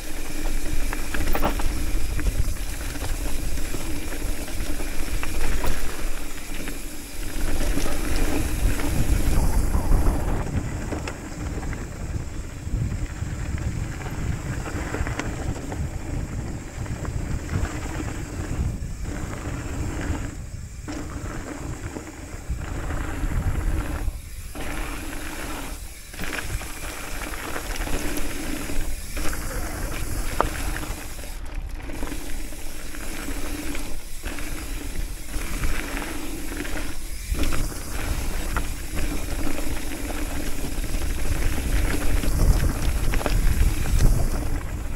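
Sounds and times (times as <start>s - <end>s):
bike rattling: 0.0s - 44.9s
tyres crunching over gravel: 0.0s - 44.9s
wind buffeting microphone: 0.0s - 44.9s.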